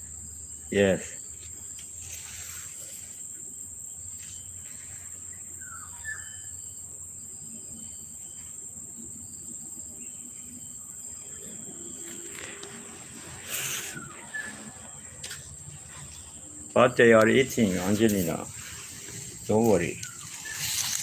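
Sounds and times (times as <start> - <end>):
crickets trilling: 0.0 - 21.0
faint chirp: 2.2 - 16.7, 17.6 - 21.0.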